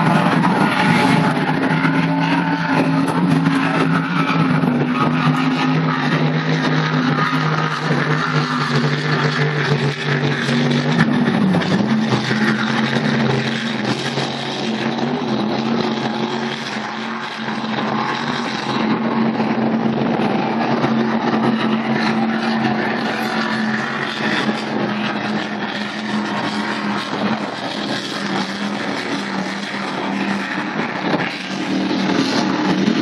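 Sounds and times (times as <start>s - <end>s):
powerboat engines droning: 0.0s - 33.0s.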